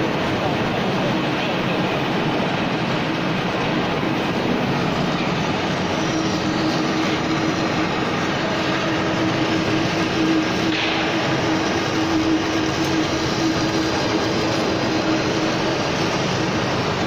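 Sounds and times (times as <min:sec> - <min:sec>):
lathe mechanical drone: 0:00.0 - 0:17.0.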